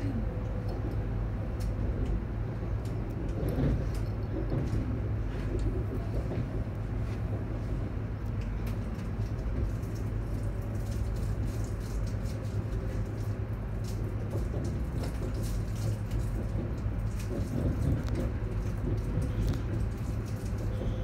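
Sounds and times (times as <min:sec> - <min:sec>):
train carriage running rumble: 0:00.0 - 0:21.0.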